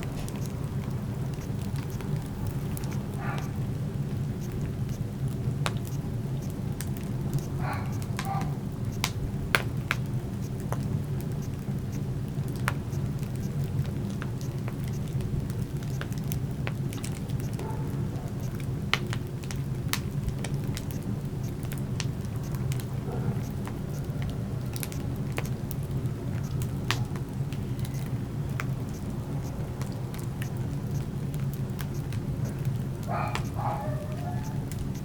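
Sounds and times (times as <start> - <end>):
fire crackling in fireplace: 0.0 - 35.0.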